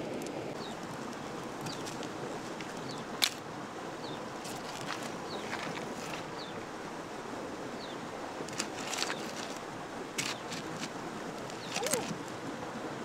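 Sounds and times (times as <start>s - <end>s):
shallow river water flowing: 0.0s - 13.0s.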